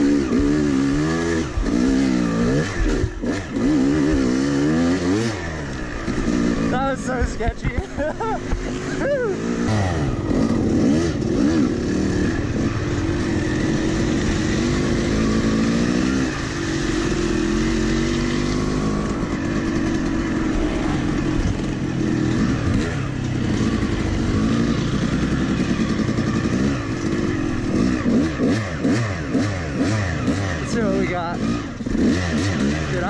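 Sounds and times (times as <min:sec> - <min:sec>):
two-stroke dirt bike engine revving: 0:00.0 - 0:33.0.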